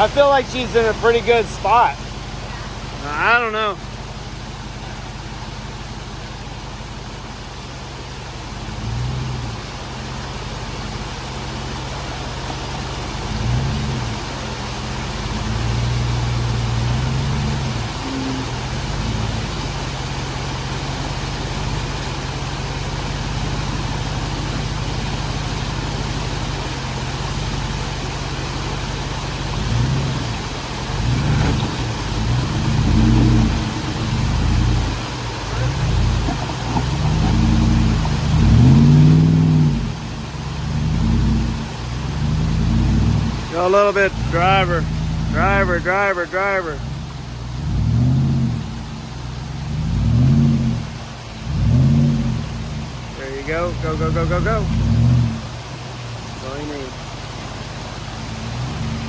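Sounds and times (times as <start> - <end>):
engine running and revving: 0.0 - 59.0.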